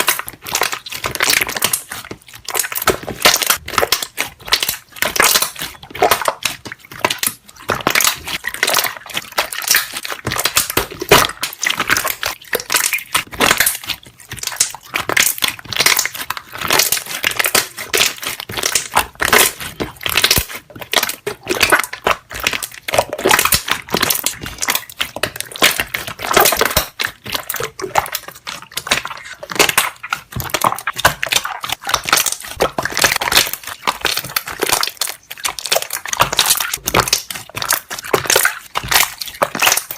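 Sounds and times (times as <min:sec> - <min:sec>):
air bubbles crackling pops: 0:00.0 - 0:39.9
slime squeezed and kneaded: 0:00.0 - 0:39.9.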